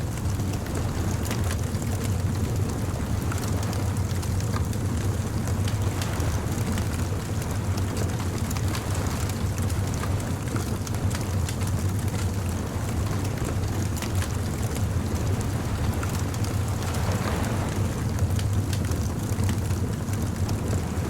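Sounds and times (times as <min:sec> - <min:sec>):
surf rumbling on a beach: 0:00.0 - 0:21.0
bonfire crackling and popping: 0:00.1 - 0:21.0.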